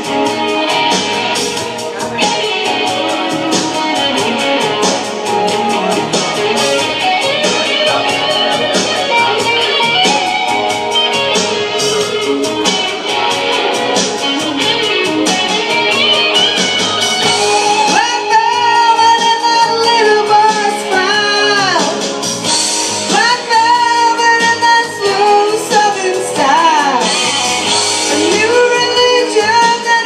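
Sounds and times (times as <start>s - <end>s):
live rock band playing: 0.0s - 30.0s
sliding lead melody notes: 0.0s - 30.0s.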